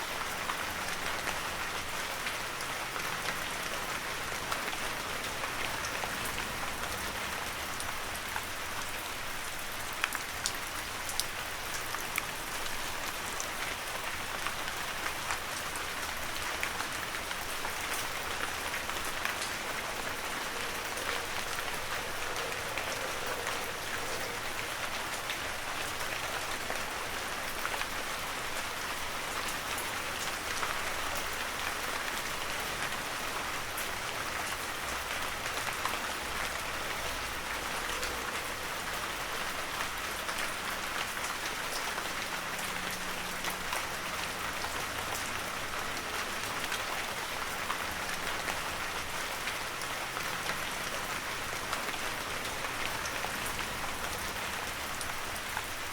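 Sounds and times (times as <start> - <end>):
heavy rain falling: 0.0 - 55.9
raindrops ticking on leaves: 0.0 - 55.9.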